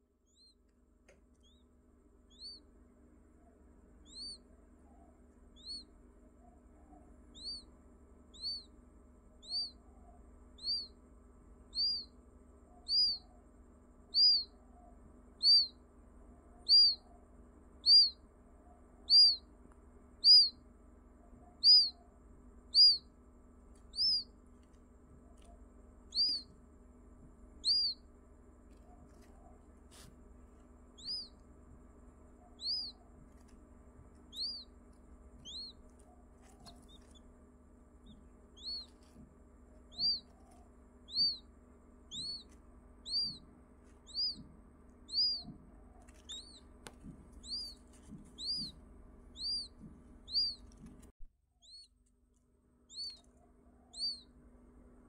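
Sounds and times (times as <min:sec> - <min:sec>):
quail chick peeping: 0:00.0 - 0:55.0.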